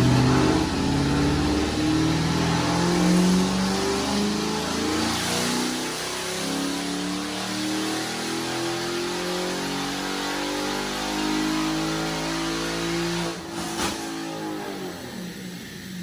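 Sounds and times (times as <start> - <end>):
car engine revving: 0.0 - 14.1.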